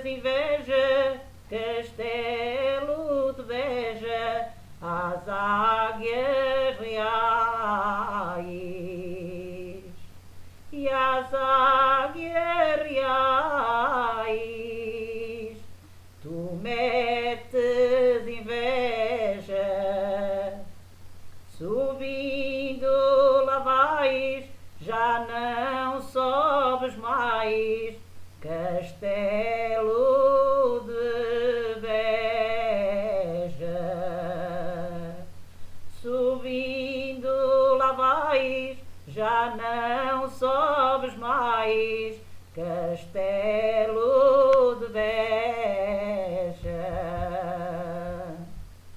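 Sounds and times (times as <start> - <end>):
steady low hum: 0.0 - 48.9
woman singing unaccompanied folk song: 0.0 - 48.9.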